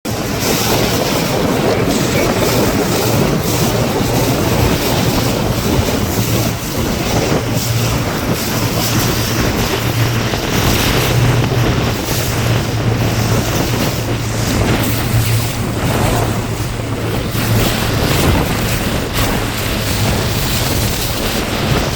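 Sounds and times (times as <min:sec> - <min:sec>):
outboard motor running: 0:00.0 - 0:21.9
rushing water: 0:00.0 - 0:21.9
wind buffeting microphone: 0:00.0 - 0:21.9.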